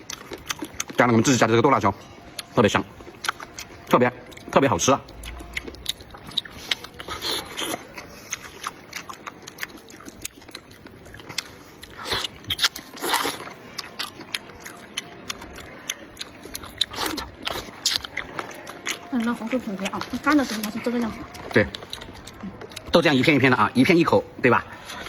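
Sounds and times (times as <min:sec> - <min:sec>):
person chewing wetly: 0:00.0 - 0:23.4.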